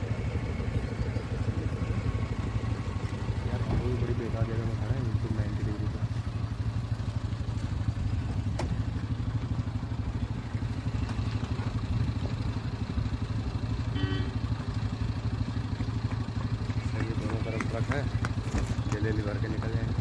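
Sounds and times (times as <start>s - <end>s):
vehicle engine throbbing: 0.0s - 20.0s.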